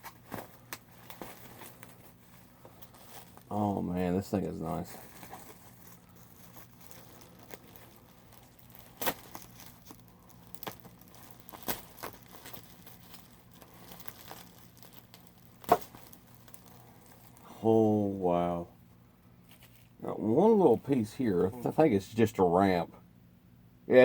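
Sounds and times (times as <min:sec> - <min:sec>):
packing material crinkling: 0:00.0 - 0:17.6, 0:19.4 - 0:21.5.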